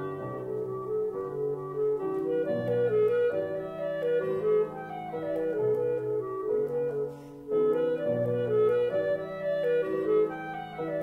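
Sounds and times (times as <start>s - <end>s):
clarinet melody: 0.0s - 11.0s.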